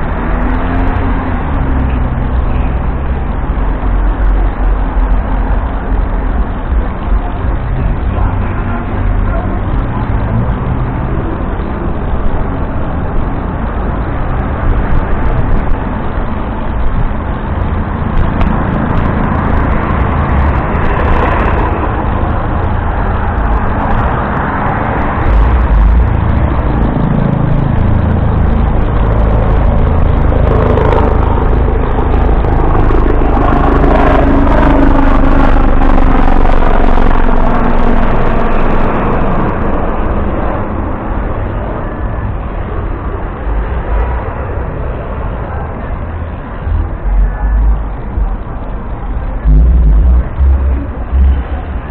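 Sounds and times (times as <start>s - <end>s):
bus rumble: 0.0s - 51.9s
passing engine: 0.0s - 51.9s
wind and road noise: 0.0s - 51.9s.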